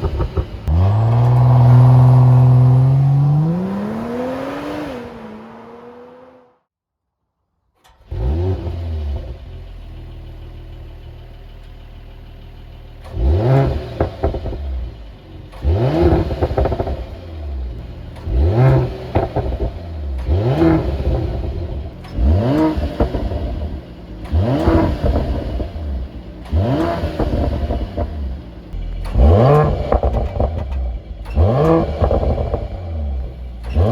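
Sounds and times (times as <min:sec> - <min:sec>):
car engine starting and idling: 0:00.0 - 0:06.5, 0:07.8 - 0:33.9
engine revving: 0:00.0 - 0:06.6, 0:07.9 - 0:10.4, 0:13.0 - 0:33.9.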